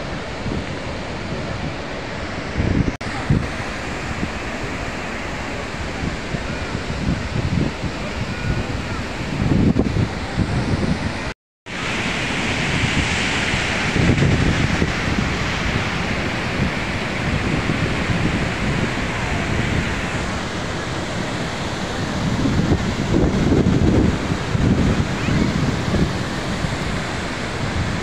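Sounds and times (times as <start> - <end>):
waterfall rushing: 0.0 - 28.0
wind gusting on microphone: 0.0 - 28.0.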